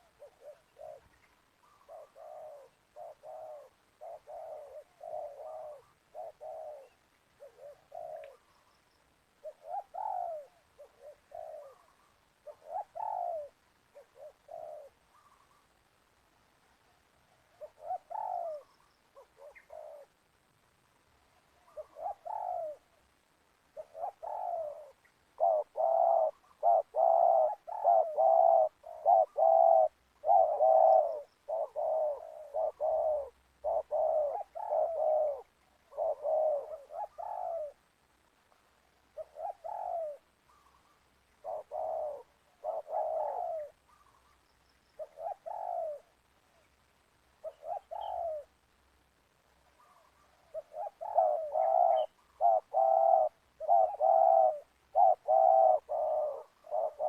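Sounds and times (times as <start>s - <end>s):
doves cooing: 0.0s - 16.0s, 17.1s - 20.4s, 21.2s - 48.8s, 49.5s - 57.0s.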